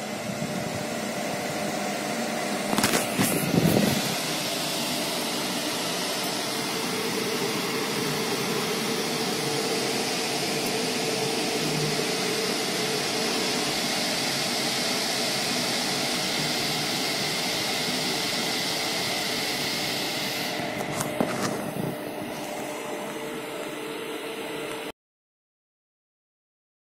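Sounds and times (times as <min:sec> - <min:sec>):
air purifier fan running: 0:00.0 - 0:24.9.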